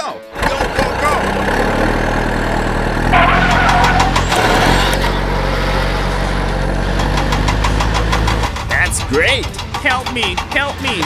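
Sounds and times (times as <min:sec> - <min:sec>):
small bulldozer engine running: 0:00.3 - 0:11.0.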